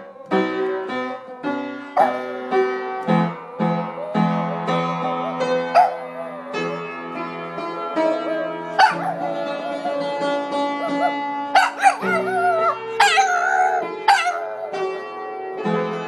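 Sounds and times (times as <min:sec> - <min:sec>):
dog howling: 0:00.0 - 0:07.1, 0:07.9 - 0:15.1
keyboard music: 0:00.0 - 0:16.0.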